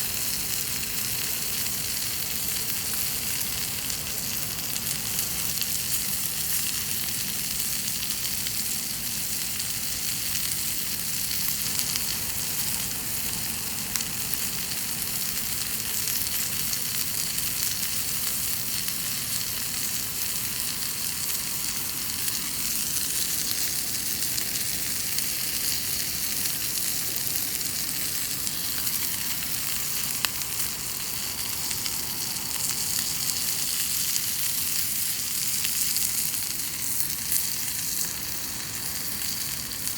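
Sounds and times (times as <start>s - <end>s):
chicken sizzling in a skillet: 0.0s - 39.9s.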